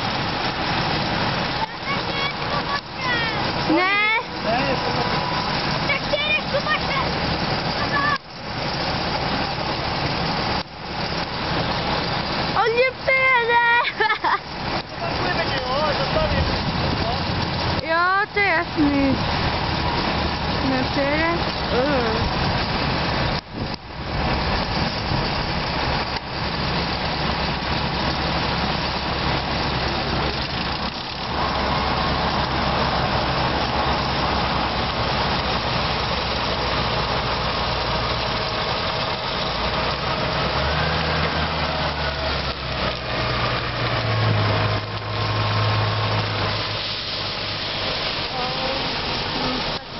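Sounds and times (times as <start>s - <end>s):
machinery approaching: 0.0s - 49.9s
tractor diesel engine running: 0.0s - 49.9s.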